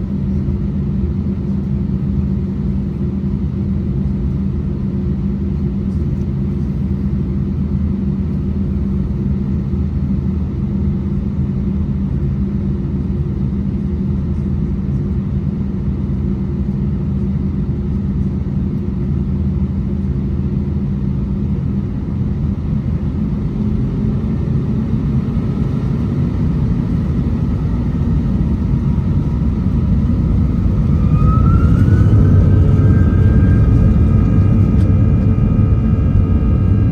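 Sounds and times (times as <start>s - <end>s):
jet engines droning: 0.0s - 36.9s.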